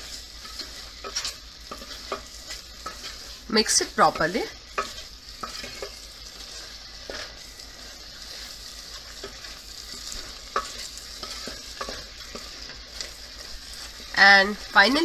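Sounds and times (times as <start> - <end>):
food sizzling in a pot: 0.0 - 15.0
spatula scraping and knocking pot: 0.0 - 15.0.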